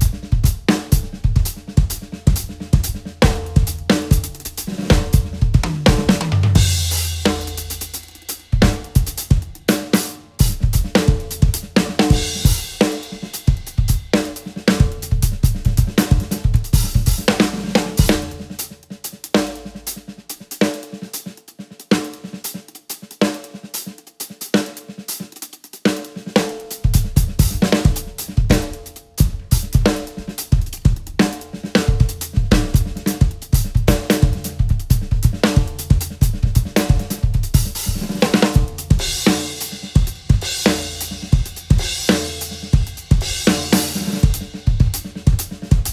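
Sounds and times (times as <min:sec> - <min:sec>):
drum kit solo: 0:00.0 - 0:45.9.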